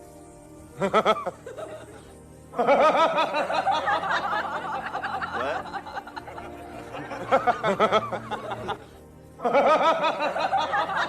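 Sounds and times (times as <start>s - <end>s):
background music: 0.0s - 11.0s
rapid high-pitched laughter: 0.8s - 11.0s.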